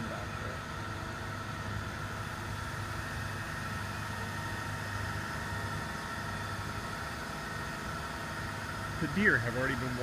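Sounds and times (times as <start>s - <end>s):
heavy machinery engine humming: 0.0s - 10.0s
steady high whine: 0.0s - 10.0s.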